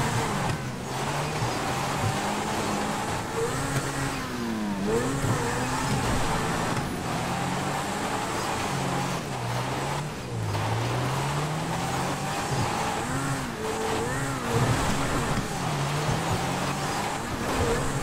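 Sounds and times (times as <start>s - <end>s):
video game car engine revving: 0.0s - 18.0s
wheels spinning in place: 0.0s - 18.0s.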